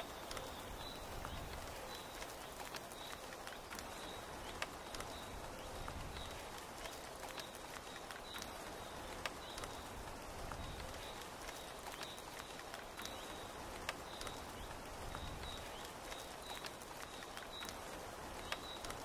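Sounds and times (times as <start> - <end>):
rain falling on a tent: 0.0 - 19.0.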